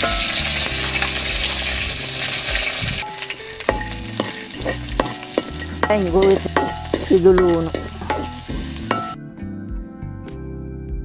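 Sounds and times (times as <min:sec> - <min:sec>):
leaves sizzling in hot oil: 0:00.0 - 0:09.2
utensil scraping a wok: 0:00.0 - 0:09.2.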